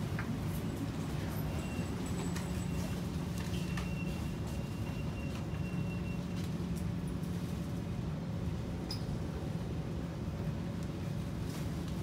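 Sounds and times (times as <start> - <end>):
train rumbling and humming: 0.0 - 12.0.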